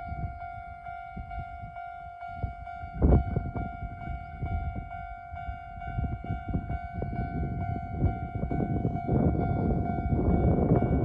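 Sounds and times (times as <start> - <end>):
level-crossing alarm ringing: 0.0 - 11.0
wind buffeting the microphone: 0.0 - 11.0.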